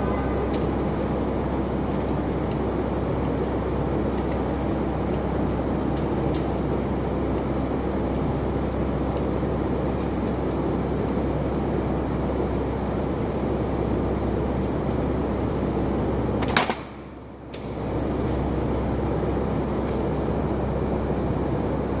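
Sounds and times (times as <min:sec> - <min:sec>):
machine running with low hum: 0:00.0 - 0:22.0.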